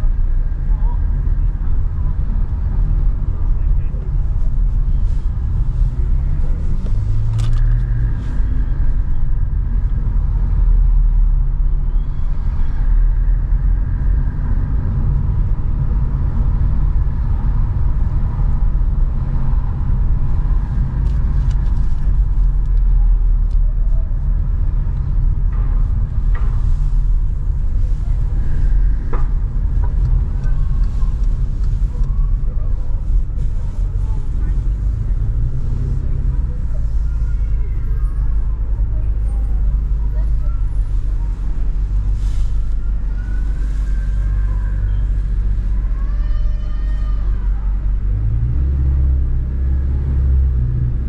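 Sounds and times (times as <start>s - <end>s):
car engine low rumble: 0.0s - 51.0s.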